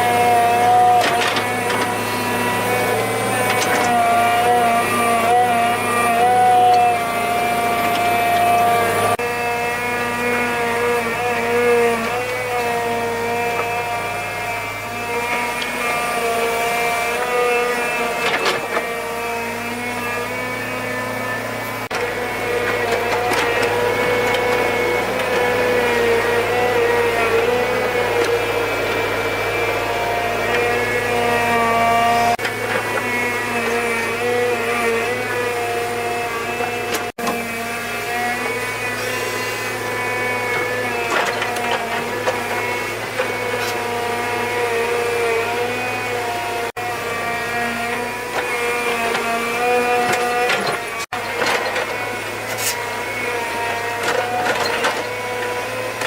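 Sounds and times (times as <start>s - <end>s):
motor running: 0.0s - 56.0s.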